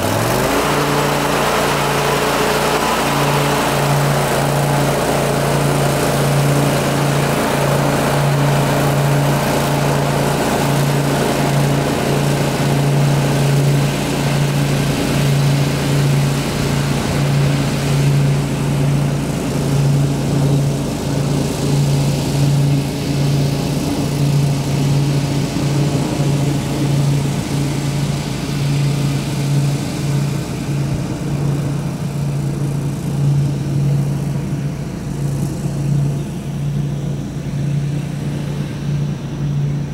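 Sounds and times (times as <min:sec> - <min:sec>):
lawn mower engine and blades: 0:00.0 - 0:39.9.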